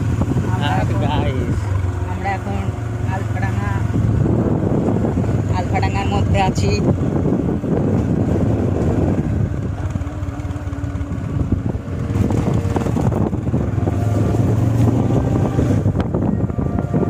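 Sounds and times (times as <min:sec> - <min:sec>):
motorcycle engine droning: 0:00.0 - 0:17.0
road and wind noise: 0:00.0 - 0:17.0.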